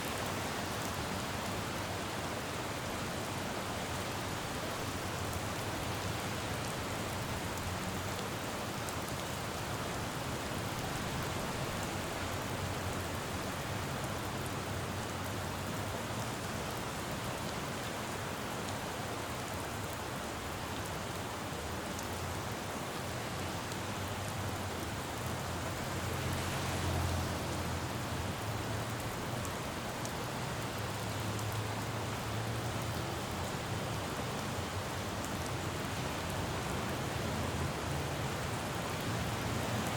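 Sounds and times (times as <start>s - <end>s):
low rumble of traffic: 0.0s - 39.9s
rain falling on a road: 0.0s - 39.9s.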